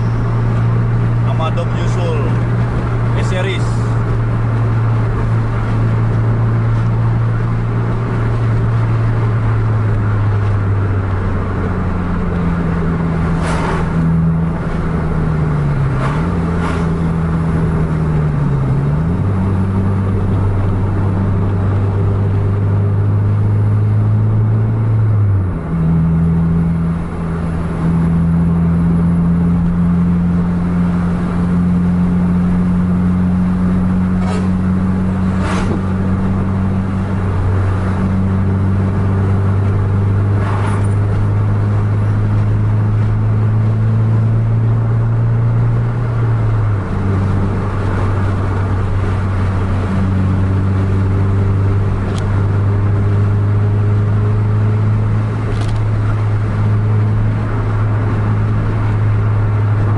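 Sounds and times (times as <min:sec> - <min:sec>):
car engine and road noise: 0:00.0 - 0:59.9
oncoming traffic rushing past: 0:00.0 - 0:59.9.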